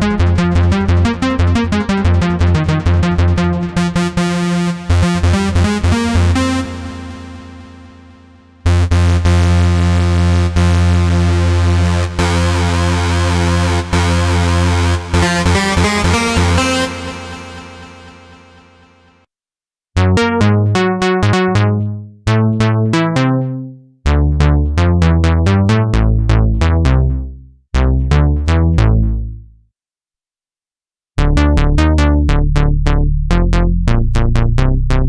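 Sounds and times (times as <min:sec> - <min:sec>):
plucky synth bass notes: 0:00.0 - 0:18.5, 0:20.0 - 0:29.5, 0:31.2 - 0:35.0.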